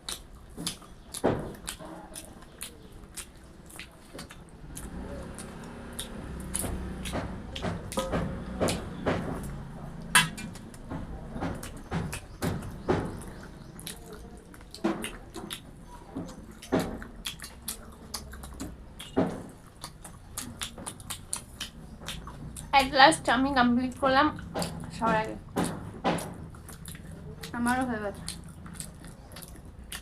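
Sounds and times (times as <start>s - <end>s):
lip smacks and mouth clicks: 0.0s - 10.9s, 11.6s - 23.0s, 23.9s - 30.0s
wet chewing: 0.0s - 30.0s.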